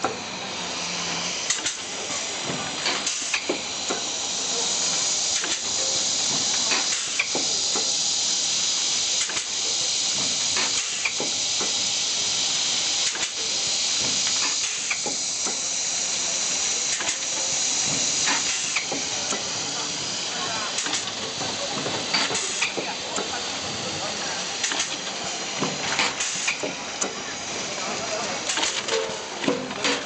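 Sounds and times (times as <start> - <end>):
packing machine hiss: 0.0 - 30.0.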